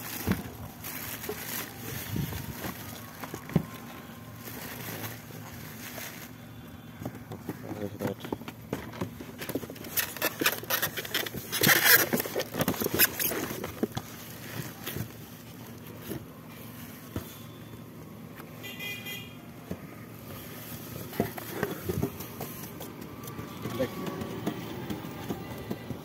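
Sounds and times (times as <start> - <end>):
cardboard and plastic rustling: 0.0 - 18.6, 19.6 - 26.0.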